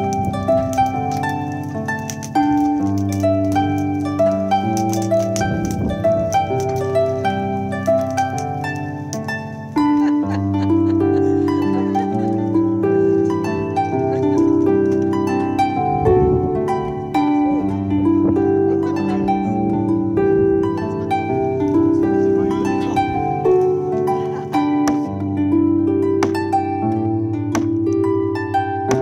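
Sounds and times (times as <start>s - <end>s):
plucked-string melody: 0.0s - 29.0s.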